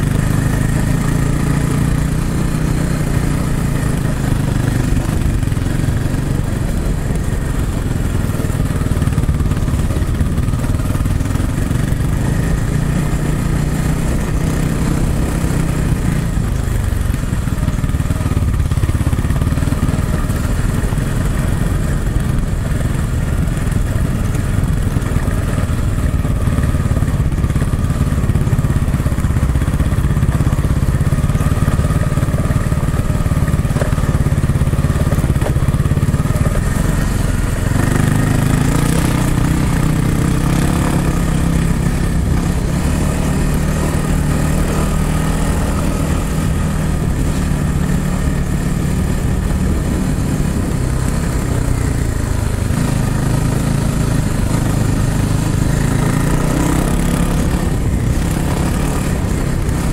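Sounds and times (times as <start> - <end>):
dirt bike engine: 0.0 - 59.9.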